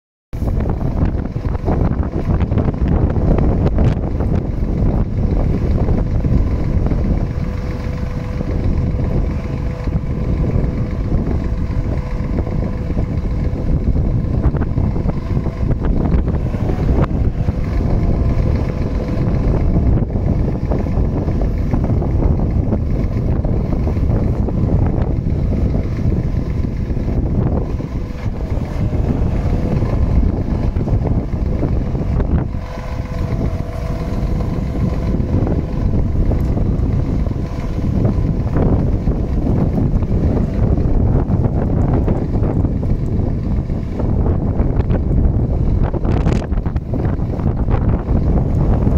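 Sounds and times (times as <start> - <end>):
truck engine running: 0.3 - 48.9
wind buffeting microphone: 0.3 - 48.9
faint steady whine: 0.4 - 48.9.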